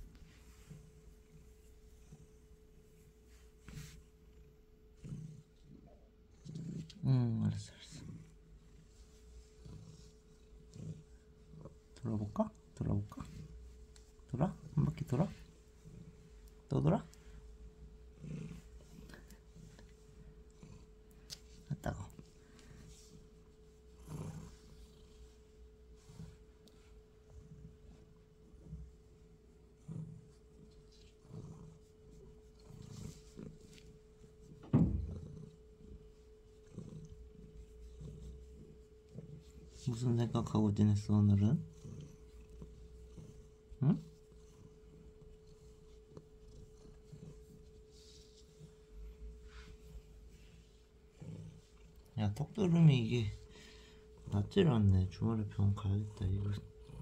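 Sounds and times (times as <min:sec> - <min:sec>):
hand rubbing cat fur: 0:00.0 - 0:06.9, 0:07.7 - 0:57.0
faint high hum: 0:00.0 - 0:57.0
soft rustles: 0:00.0 - 0:57.0.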